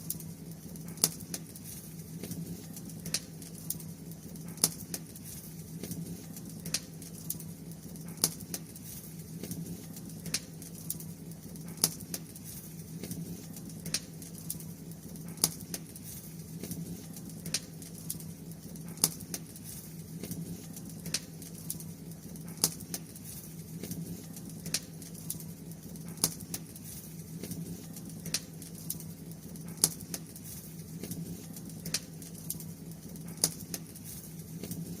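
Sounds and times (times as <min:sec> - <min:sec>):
bonfire crackling: 0:00.0 - 0:35.0.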